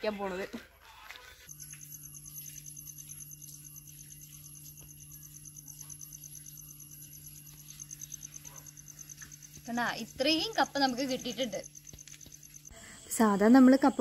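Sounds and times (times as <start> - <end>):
steady low hum: 1.5 - 13.5
insects chirping: 1.5 - 14.0.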